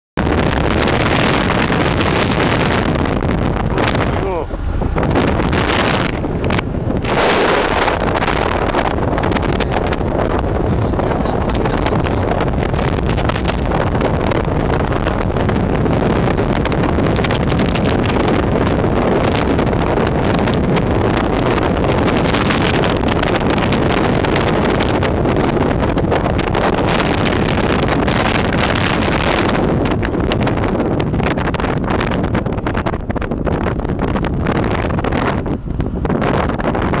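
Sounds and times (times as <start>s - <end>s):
wind rushing over microphone: 0.2s - 37.0s
motorcycle engine running: 0.3s - 37.0s.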